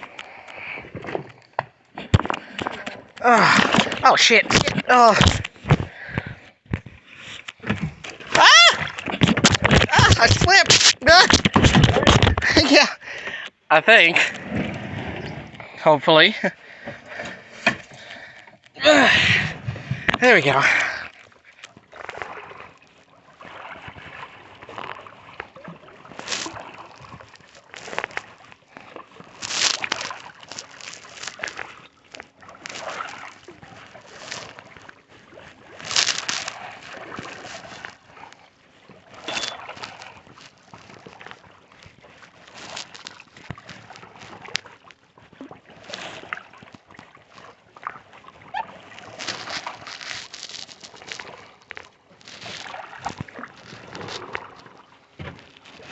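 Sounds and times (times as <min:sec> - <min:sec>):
paddle splashing in water: 0:00.0 - 0:13.4, 0:14.0 - 0:55.9
water sloshing against hull: 0:00.0 - 0:55.9.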